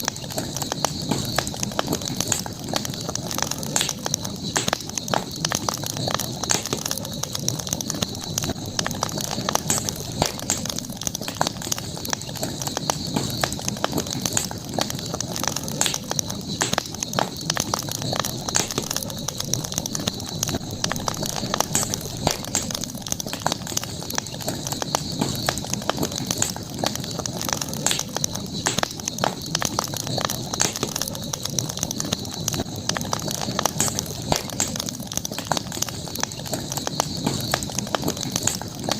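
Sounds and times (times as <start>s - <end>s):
campfire crackling and popping: 0.0s - 38.9s
low rumble of flame: 0.0s - 38.9s.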